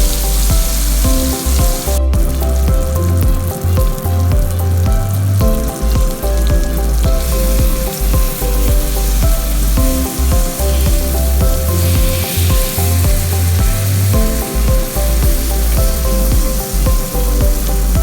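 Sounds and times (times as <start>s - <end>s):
eggplant sizzling in oil: 0.0s - 4.9s, 5.5s - 18.0s
background music with pulsing bass: 0.0s - 18.0s.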